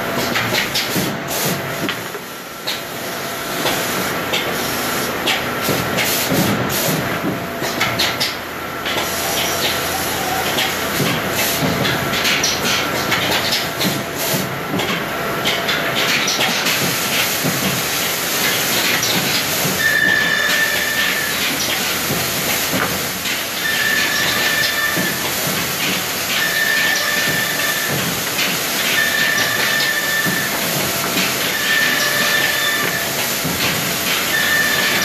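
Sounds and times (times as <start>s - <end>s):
factory machinery hissing: 0.1s - 7.8s, 8.6s - 35.0s.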